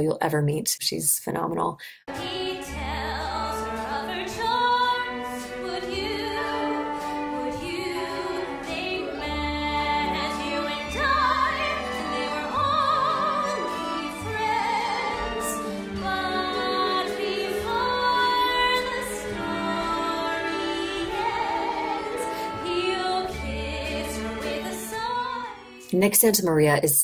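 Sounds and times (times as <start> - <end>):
woman singing with vibrato: 1.6 - 25.7
pit orchestra playing: 2.2 - 25.8.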